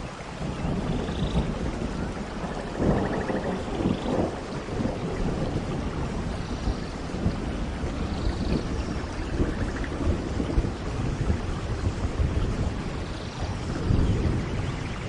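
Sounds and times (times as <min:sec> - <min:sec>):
low rolling thunder: 0:00.0 - 0:15.0
rain pouring down: 0:00.0 - 0:15.0.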